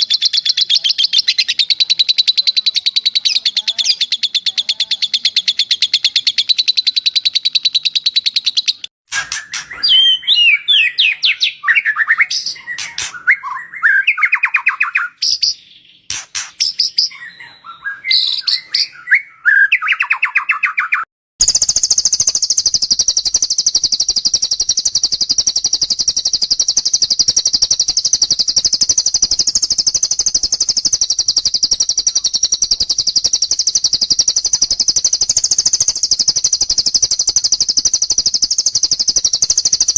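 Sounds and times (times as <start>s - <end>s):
songbird trilling and whistling: 0.0s - 39.9s.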